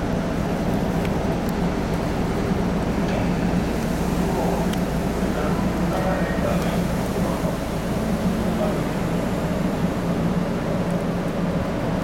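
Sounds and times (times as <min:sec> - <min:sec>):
train car low hum and rumble: 0:00.0 - 0:12.0.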